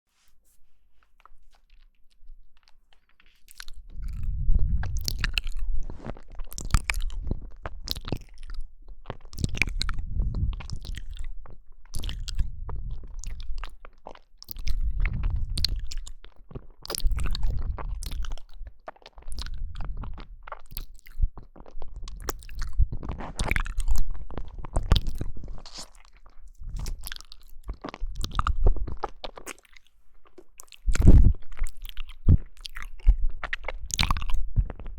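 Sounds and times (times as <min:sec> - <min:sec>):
person chewing with wet clicks: 0:01.0 - 0:34.9.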